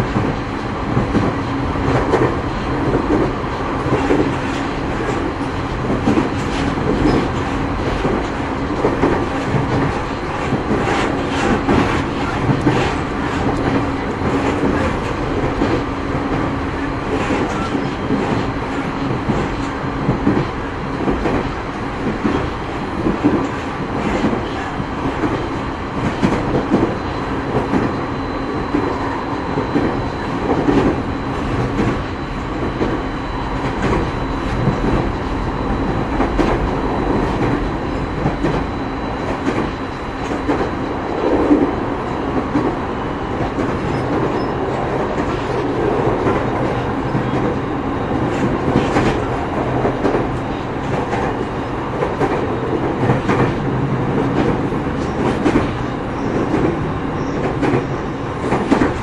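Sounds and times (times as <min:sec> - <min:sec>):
electric train rumble and hum: 0:00.0 - 0:59.0.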